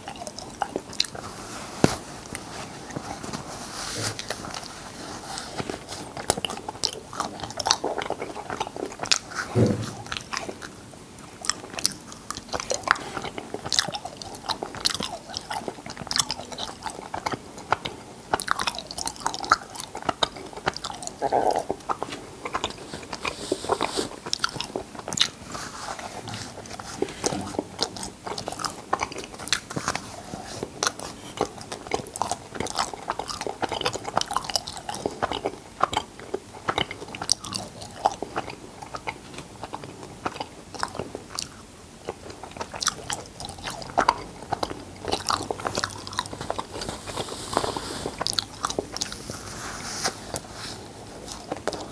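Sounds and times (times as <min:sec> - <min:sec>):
person chewing with lip smacks: 0:00.0 - 0:51.9.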